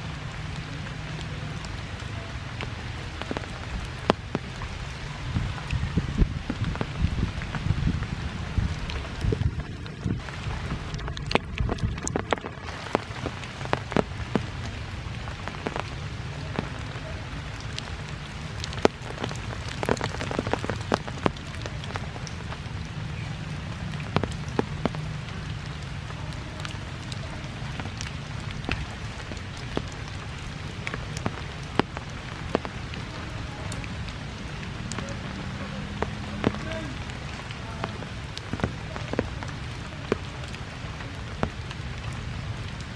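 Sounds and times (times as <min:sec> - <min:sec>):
rain falling on leaves: 0:00.0 - 0:42.9
sharp drips and taps: 0:00.0 - 0:42.9.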